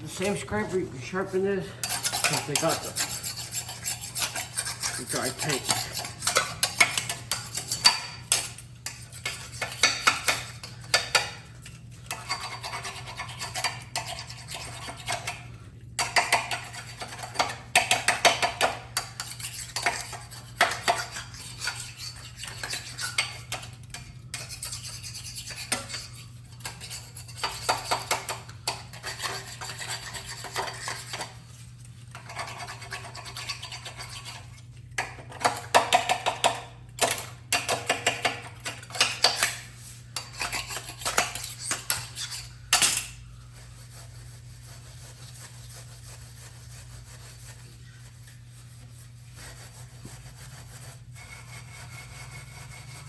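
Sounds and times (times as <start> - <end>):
hand scraper rasping on paint: 0.0 - 15.4, 16.0 - 34.5, 35.4 - 42.6, 43.4 - 53.0
faint steady hum: 0.0 - 53.0.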